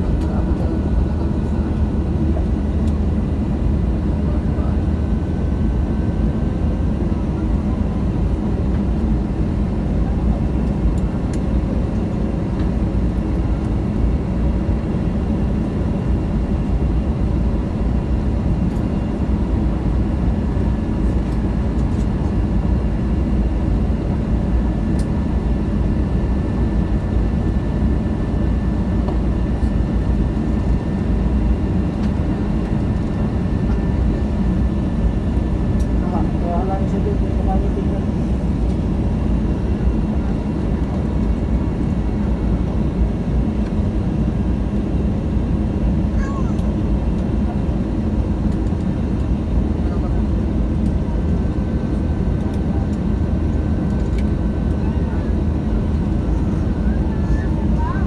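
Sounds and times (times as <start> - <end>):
airliner engine drone: 0.0 - 58.0.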